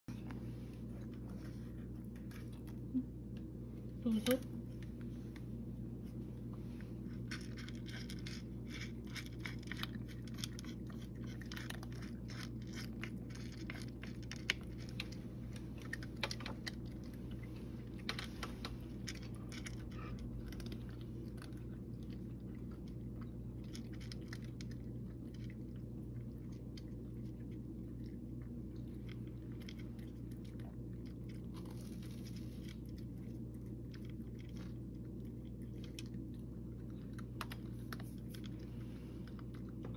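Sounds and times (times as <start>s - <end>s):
steady low hum: 0.0s - 39.9s
cat crunching dry kibble: 0.2s - 2.9s, 6.0s - 39.9s.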